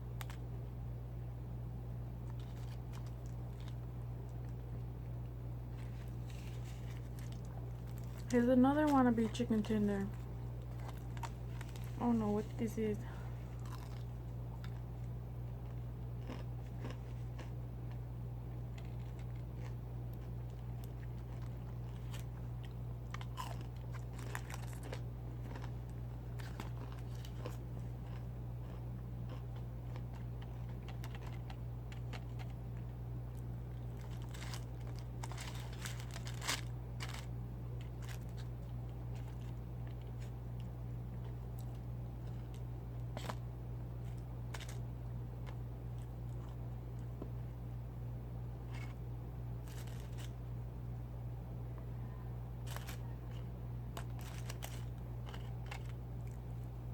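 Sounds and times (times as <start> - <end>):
crunching and chewing: 0.0 - 0.6, 2.2 - 47.5, 48.4 - 50.6, 52.0 - 56.9
low electrical hum: 0.0 - 56.9.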